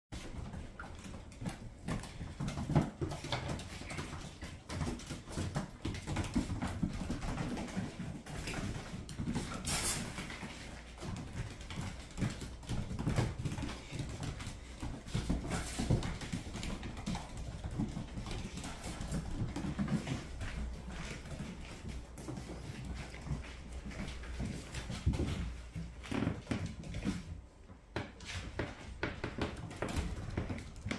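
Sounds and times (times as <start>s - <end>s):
puppy claws scrabbling on wood floor: 0.2s - 30.9s.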